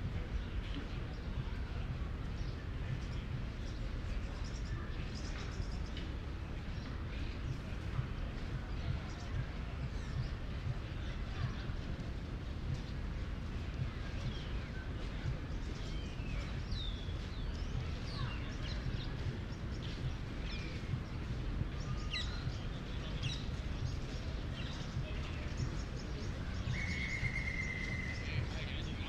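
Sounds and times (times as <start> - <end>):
low city rumble: 0.0 - 29.0
birds chirping: 0.1 - 29.0.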